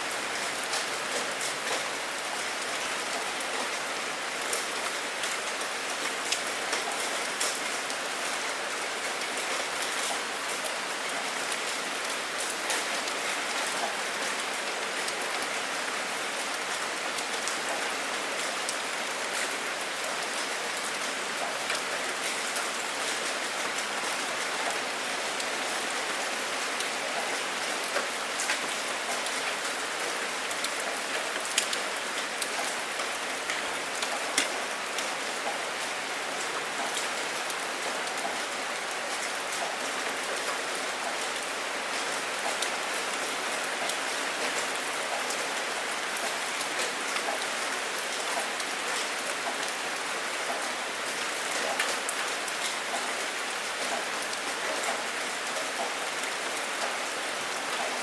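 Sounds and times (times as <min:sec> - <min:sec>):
steady rain hiss: 0:00.0 - 0:58.0
raindrops ticking on surface: 0:00.2 - 0:58.0.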